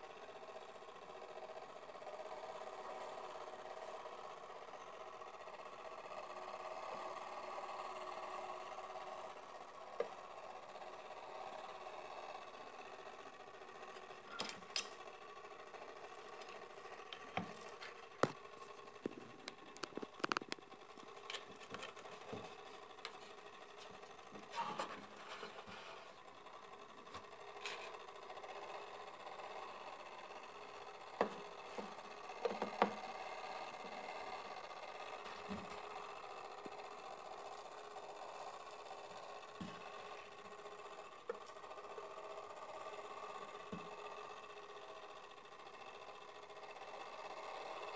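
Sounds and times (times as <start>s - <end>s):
clockwork whirring: 0.0s - 47.9s.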